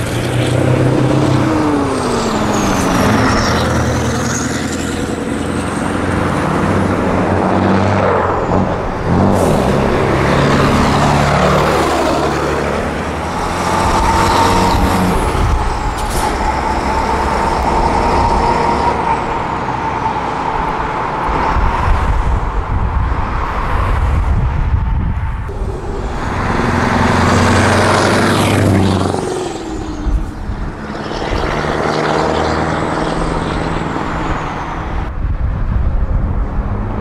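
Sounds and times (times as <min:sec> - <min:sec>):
diesel truck engine passing: 0:00.0 - 0:37.0.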